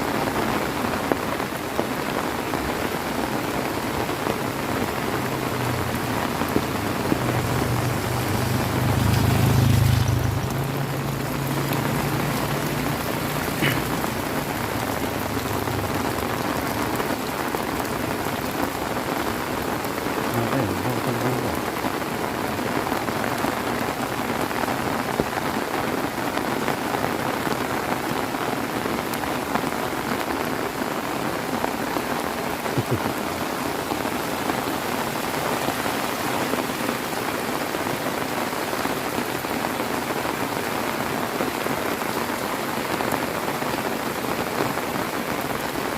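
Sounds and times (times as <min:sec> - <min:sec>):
heavy rain: 0:00.0 - 0:45.9.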